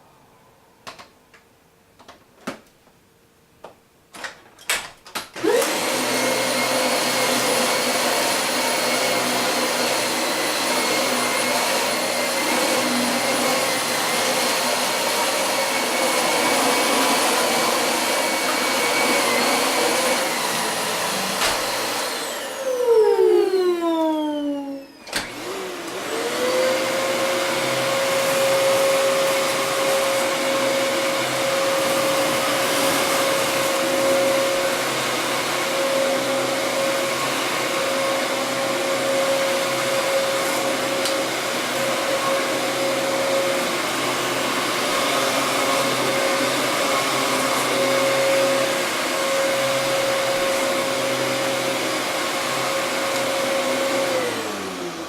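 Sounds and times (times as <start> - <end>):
vacuum cleaner motor whine: 5.4 - 55.0.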